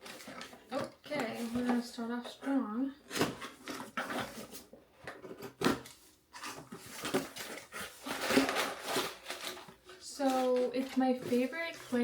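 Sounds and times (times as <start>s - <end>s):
packaging rustling and knocking: 0.0s - 12.0s.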